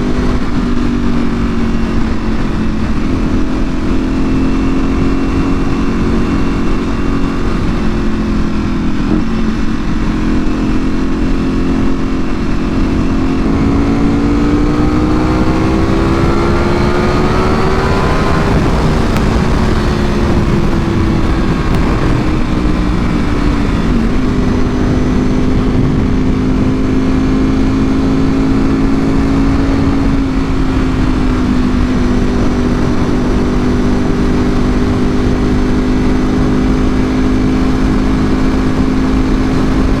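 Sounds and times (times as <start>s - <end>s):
low wind rumble: 0.0s - 40.0s
motorcycle engine revving: 0.0s - 40.0s.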